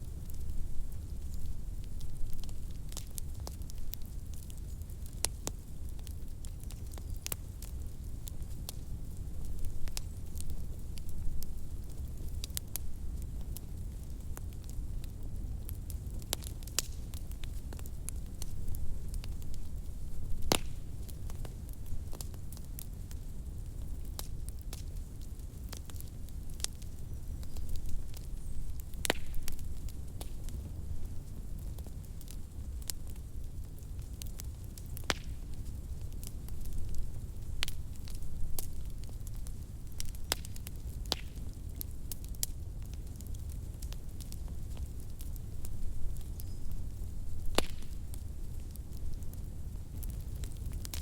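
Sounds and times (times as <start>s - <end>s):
low rumble of flames: 0.0s - 51.0s
wood fire crackling: 0.0s - 51.0s.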